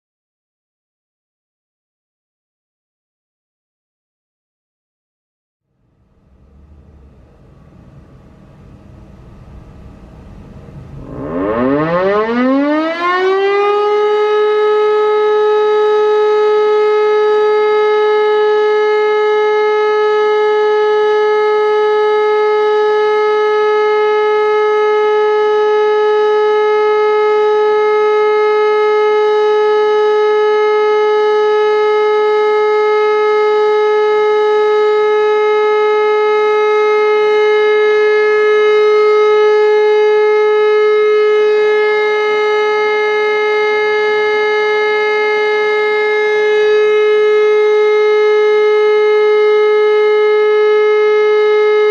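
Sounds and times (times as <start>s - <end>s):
siren rising to steady tone: 5.8s - 51.9s.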